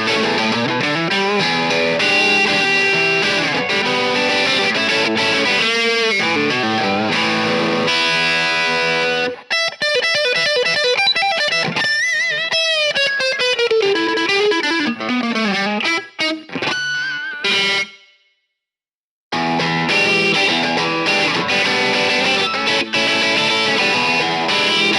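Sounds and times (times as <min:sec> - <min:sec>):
electric guitar chords: 0:00.0 - 0:18.0, 0:19.3 - 0:24.9
electric guitar lick with bends: 0:00.0 - 0:18.0, 0:19.4 - 0:24.9.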